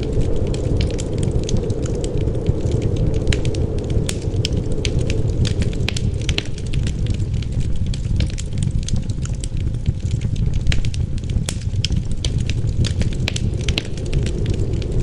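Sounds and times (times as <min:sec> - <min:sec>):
low rumble of wind: 0:00.0 - 0:15.0
wood fire crackling: 0:00.0 - 0:15.0.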